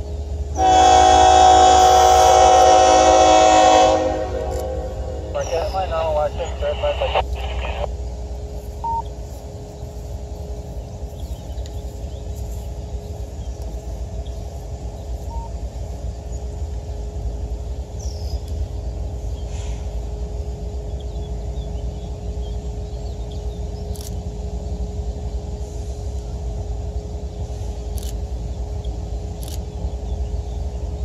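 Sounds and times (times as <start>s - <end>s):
distant diesel locomotive rumble: 0.0s - 31.0s
faint steady hum: 0.0s - 31.0s.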